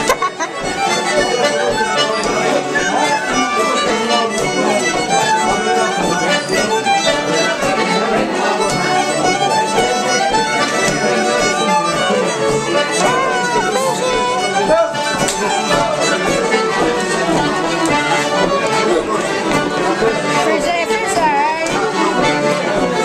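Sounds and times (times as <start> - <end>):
fiddle and accordion dance tune: 0.0 - 23.0.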